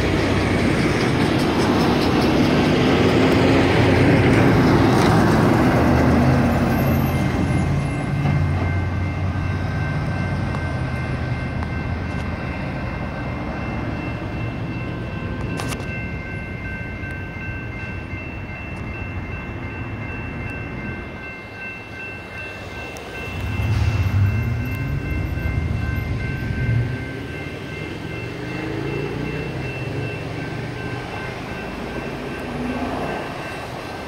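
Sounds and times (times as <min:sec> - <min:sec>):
electronic crossing bell ringing: 0:06.2 - 0:34.0.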